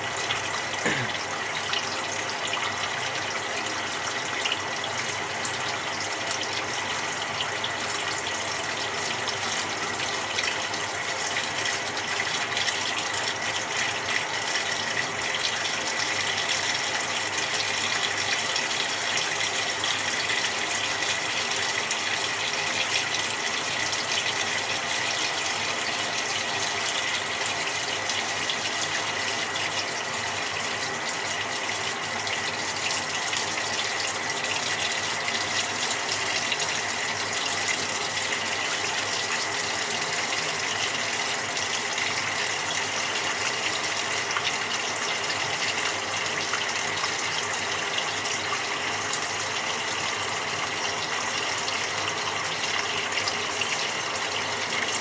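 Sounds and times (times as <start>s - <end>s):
washing machine water rushing: 0.0s - 55.0s.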